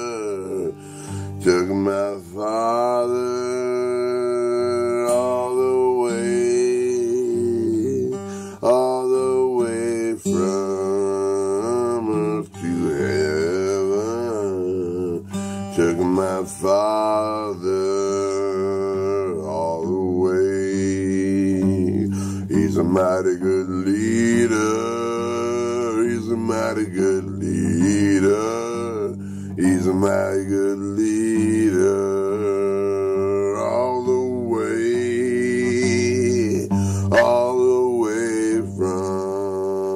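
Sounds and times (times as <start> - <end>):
man singing: 0.0 - 39.9
strummed acoustic guitar: 0.0 - 39.9.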